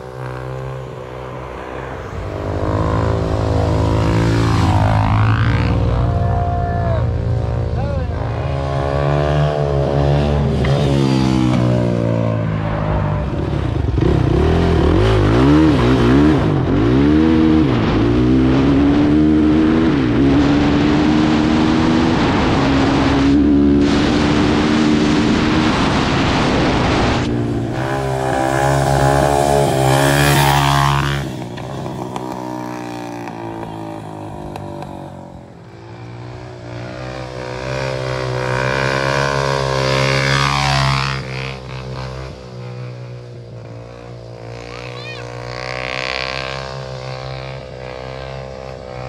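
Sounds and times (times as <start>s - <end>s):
quad engine revving: 0.0s - 12.3s, 12.9s - 49.0s.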